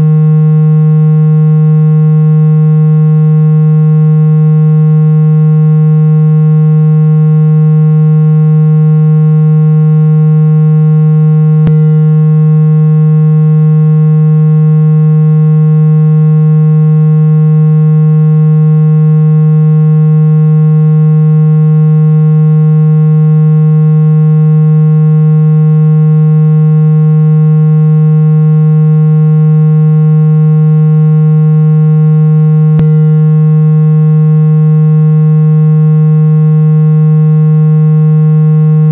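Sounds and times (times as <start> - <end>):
buzzy low electronic tone: 0.0 - 38.9.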